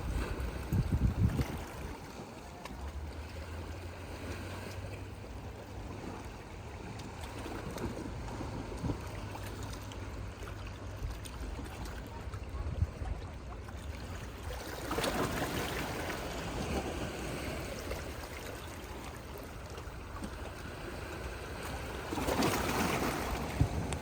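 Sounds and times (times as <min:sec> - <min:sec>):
sea water lapping: 0:00.0 - 0:24.0
water surging in: 0:00.0 - 0:24.0.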